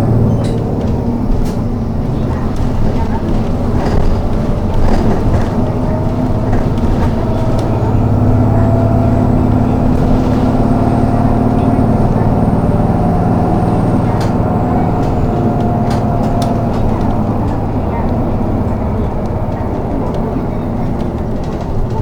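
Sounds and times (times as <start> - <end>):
bus engine hum: 0.0 - 22.0.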